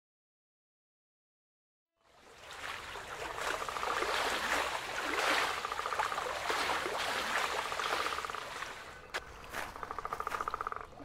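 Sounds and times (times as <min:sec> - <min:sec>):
oar splashing water: 0:02.0 - 0:11.0.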